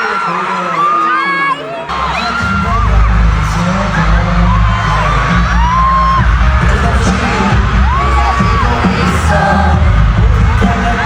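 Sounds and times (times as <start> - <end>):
crowd screaming: 0.0 - 11.0
loud pop music with bass beat: 0.0 - 11.0.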